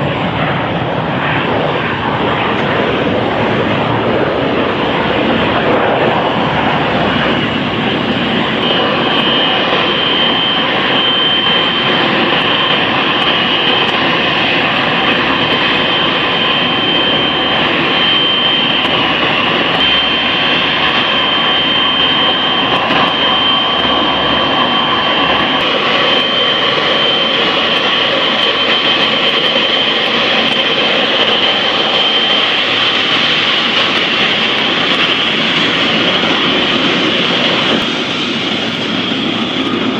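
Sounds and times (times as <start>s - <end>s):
jet engines roaring with whine: 0.0s - 39.9s.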